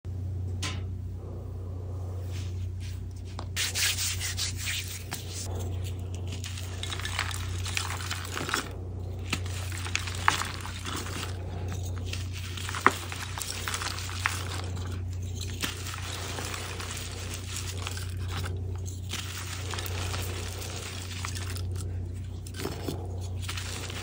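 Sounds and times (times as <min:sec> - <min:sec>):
low hum: 0:00.1 - 0:24.0
chalk crumbling and crunching: 0:02.3 - 0:24.0.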